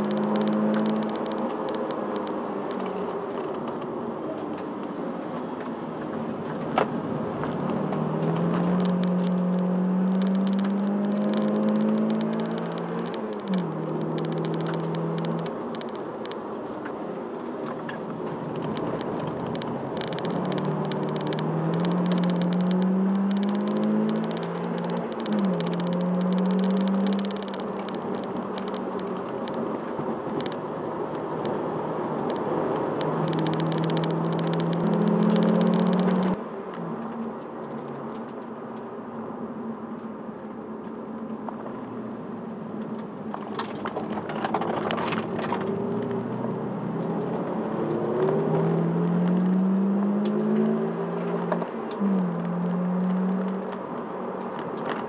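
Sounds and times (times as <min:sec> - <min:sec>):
car engine accelerating: 0:00.0 - 0:16.4, 0:17.4 - 0:38.4, 0:41.7 - 0:55.0
road and wind noise: 0:00.0 - 0:55.0.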